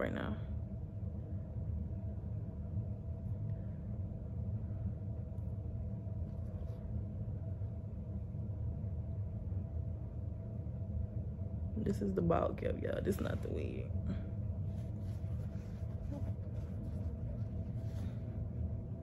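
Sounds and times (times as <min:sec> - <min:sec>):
low hum and rumble: 0:00.0 - 0:19.0.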